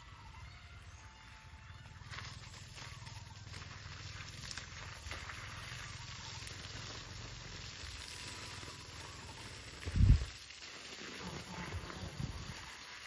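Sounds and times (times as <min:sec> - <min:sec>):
food sizzling: 0:02.4 - 0:13.0.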